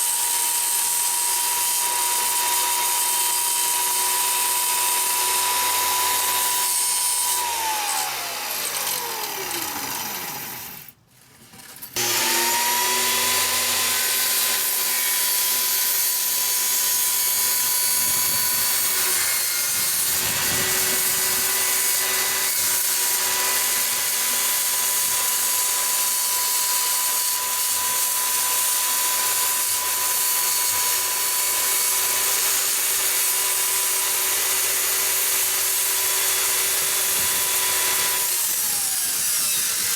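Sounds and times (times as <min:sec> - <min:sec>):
circular saw cutting wood: 0:00.0 - 0:11.0, 0:11.9 - 0:39.9.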